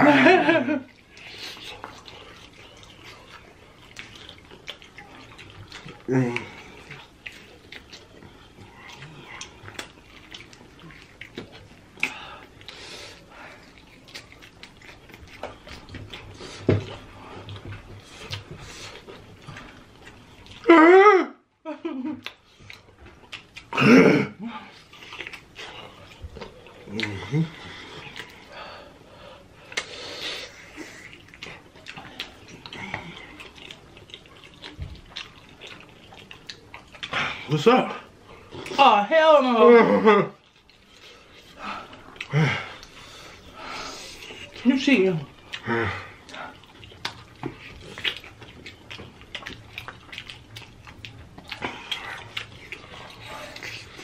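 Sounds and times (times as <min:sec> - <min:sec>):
wet chewing and lip-smacking: 0:00.8 - 0:20.7, 0:21.5 - 0:23.8, 0:24.4 - 0:39.0, 0:40.3 - 0:54.0.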